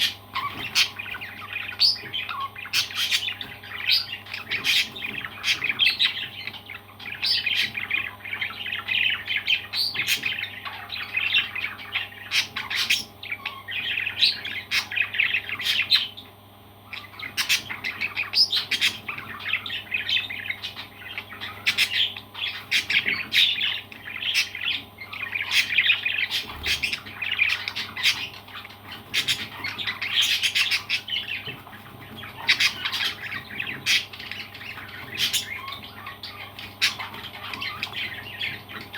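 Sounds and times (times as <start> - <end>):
faint steady hum: 0.0 - 38.9
parrots chattering and squawking: 0.0 - 38.9.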